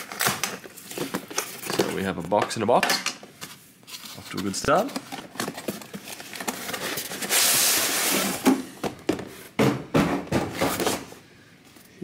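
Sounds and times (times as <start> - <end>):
boxes knocking and rustling: 0.0 - 11.2.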